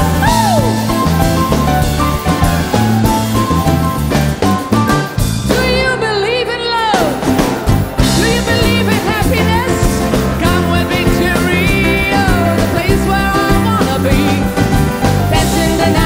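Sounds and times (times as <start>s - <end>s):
bass guitar: 0.0s - 16.0s
drum kit: 0.0s - 16.0s
live pop band playing: 0.0s - 16.0s.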